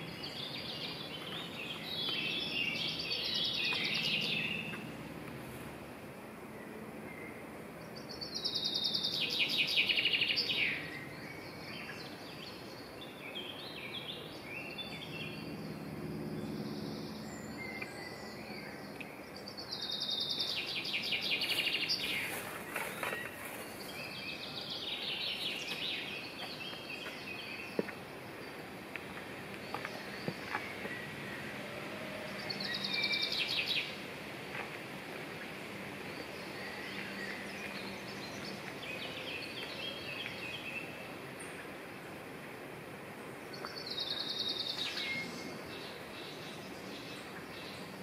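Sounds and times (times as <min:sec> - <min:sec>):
birds chirping: 0:00.0 - 0:05.6, 0:06.5 - 0:42.2
steady background hiss: 0:00.0 - 0:48.0.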